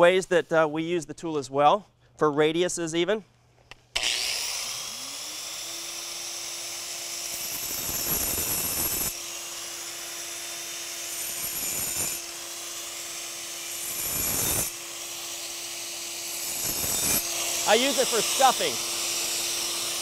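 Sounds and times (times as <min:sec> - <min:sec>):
angle grinder whining: 0:04.0 - 0:20.0
grinder grinding concrete: 0:04.0 - 0:20.0.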